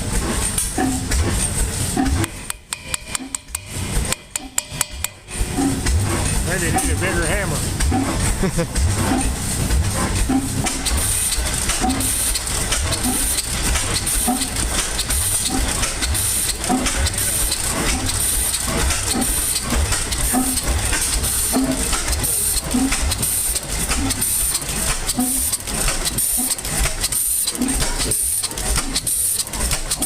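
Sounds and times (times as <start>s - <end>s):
stationary engine running: 0.0s - 30.0s.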